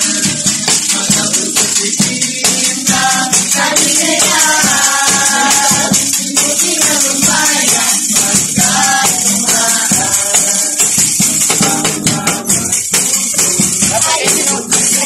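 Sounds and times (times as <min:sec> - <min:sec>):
acoustic guitars: 0:00.0 - 0:15.0
group of people singing: 0:00.0 - 0:15.0
high rattling percussion: 0:00.0 - 0:15.0.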